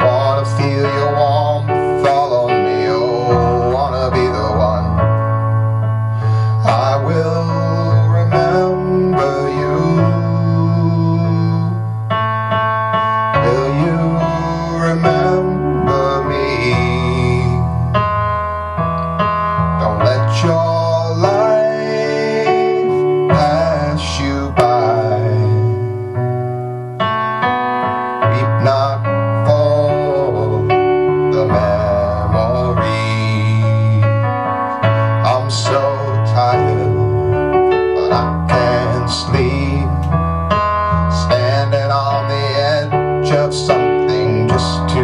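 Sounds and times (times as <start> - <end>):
piano and electric keyboard music: 0.0 - 45.0.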